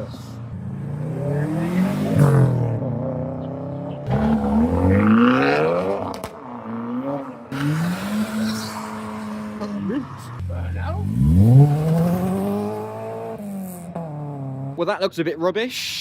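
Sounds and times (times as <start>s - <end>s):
car engines revving: 0.0s - 15.2s.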